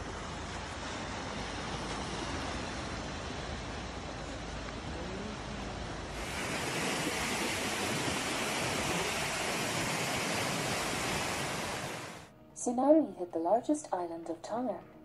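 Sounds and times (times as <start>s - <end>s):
rushing water: 0.0s - 12.3s.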